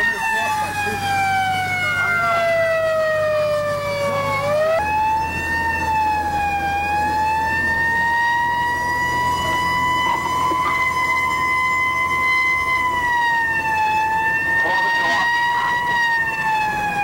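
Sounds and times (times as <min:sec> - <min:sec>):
siren wailing: 0:00.0 - 0:17.0
truck low hum: 0:00.0 - 0:17.0.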